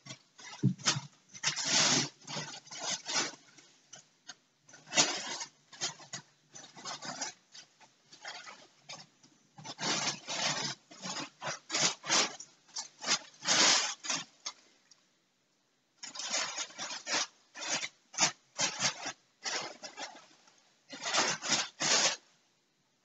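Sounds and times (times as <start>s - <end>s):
cat toy rustling and crinkling: 0.0s - 15.0s, 16.0s - 22.3s.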